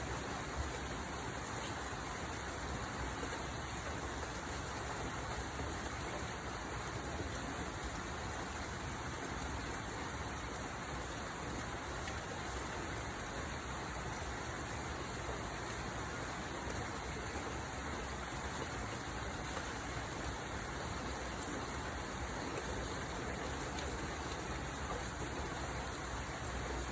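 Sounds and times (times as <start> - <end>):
steady rainfall: 0.0 - 26.9.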